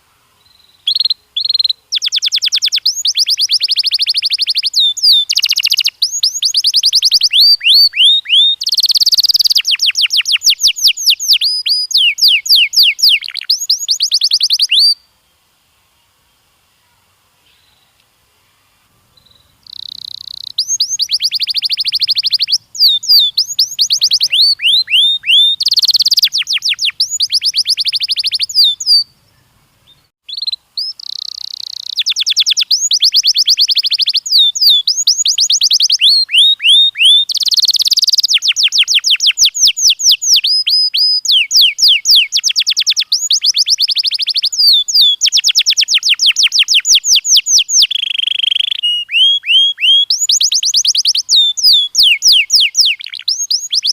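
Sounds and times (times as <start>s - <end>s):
canary singing trills: 0.0s - 15.1s, 18.6s - 53.9s.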